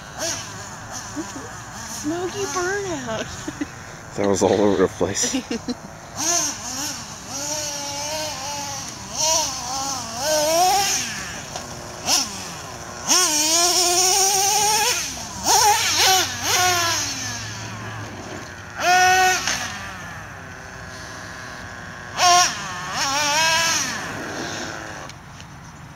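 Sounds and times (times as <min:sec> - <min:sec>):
small engine revving whine: 0:00.0 - 0:25.9.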